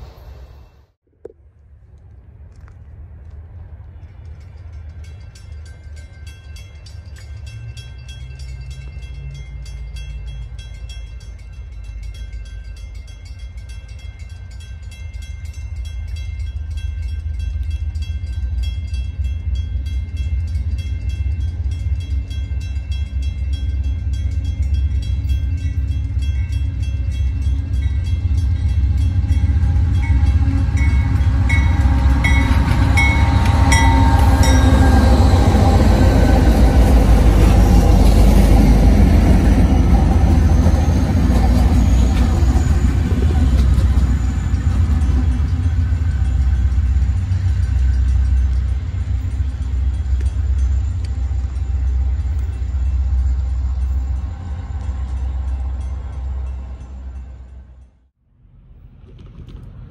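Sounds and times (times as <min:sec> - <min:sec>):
diesel locomotive rumble: 0:01.9 - 0:59.9.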